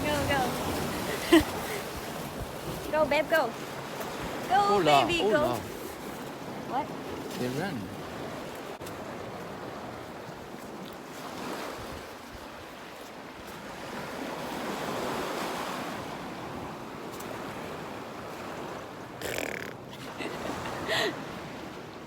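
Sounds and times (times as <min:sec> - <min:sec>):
sea waves washing on shore: 0:00.0 - 0:22.0
wind: 0:00.0 - 0:22.0.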